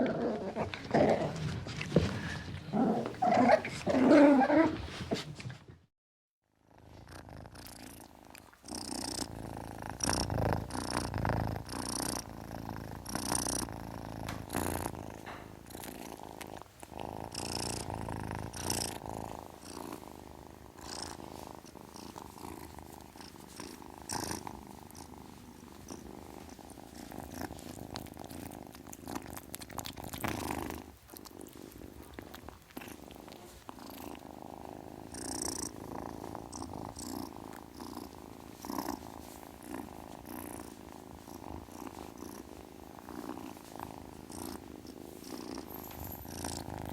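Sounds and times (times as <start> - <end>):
kitten purring: 6.6 - 46.9.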